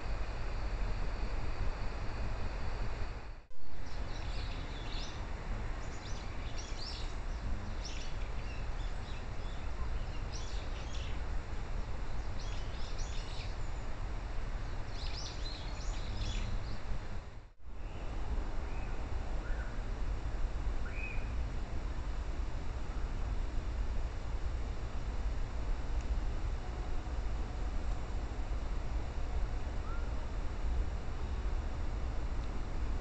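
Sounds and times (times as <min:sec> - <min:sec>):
steady hiss and low rumble: 0:00.0 - 0:33.0.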